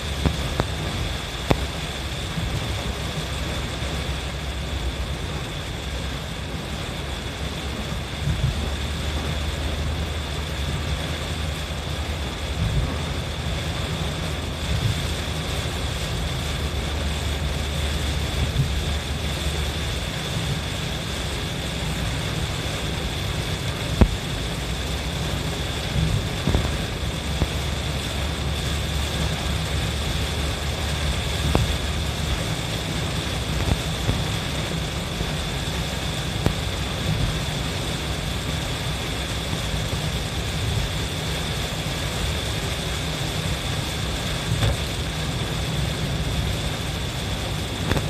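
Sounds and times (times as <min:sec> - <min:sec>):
car engine and road rumble: 0:00.0 - 0:48.0
heavy rain on windscreen: 0:00.0 - 0:48.0
windscreen wipers sweeping: 0:00.0 - 0:48.0.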